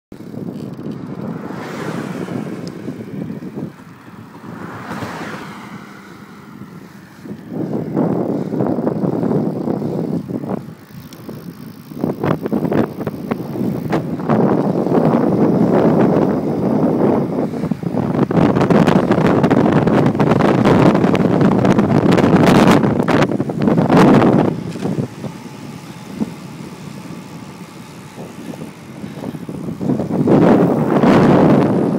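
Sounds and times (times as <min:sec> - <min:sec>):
wind rushing over microphone: 0:00.1 - 0:31.9
traffic passing whoosh: 0:00.2 - 0:31.9.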